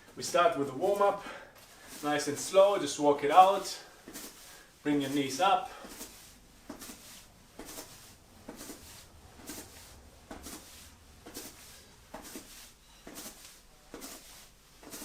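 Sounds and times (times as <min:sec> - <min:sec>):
soft footfalls on floor: 0:00.0 - 0:15.0.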